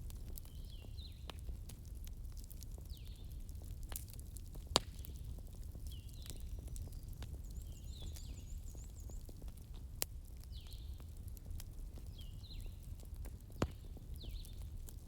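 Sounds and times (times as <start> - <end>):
bonfire crackling: 0.0 - 15.0
fire popping: 0.0 - 15.0.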